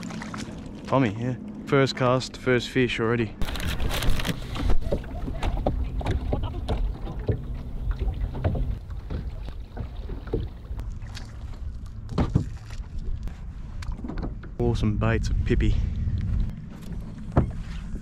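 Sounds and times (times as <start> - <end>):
low rumble of water and wind: 0.0 - 18.0.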